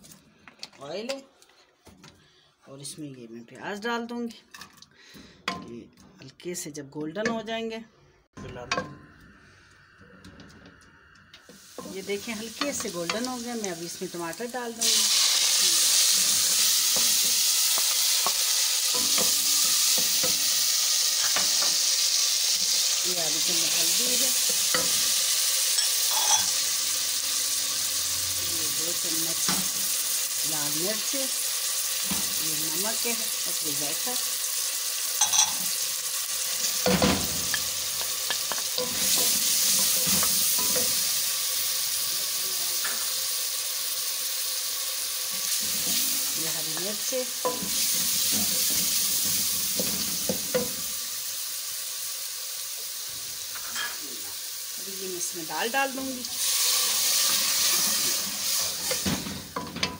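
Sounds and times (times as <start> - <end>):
food sizzling in hot oil: 11.4 - 59.9.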